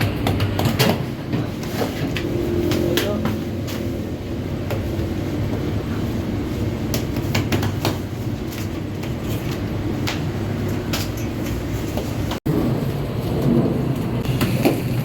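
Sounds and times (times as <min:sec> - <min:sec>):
bakery machinery rumbling: 0:00.0 - 0:15.0.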